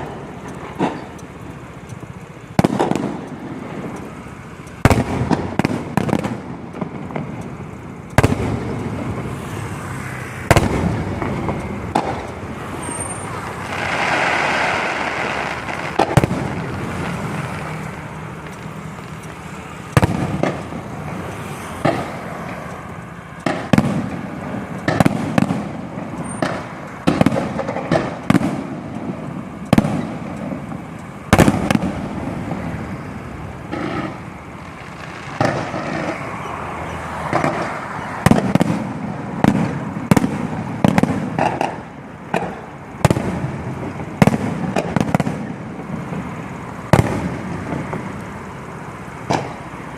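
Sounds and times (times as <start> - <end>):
fireworks bursting with bangs: 0.0 - 9.4, 10.4 - 22.7, 23.3 - 48.2, 49.1 - 49.8
fireworks crackling and rumble: 0.0 - 49.9.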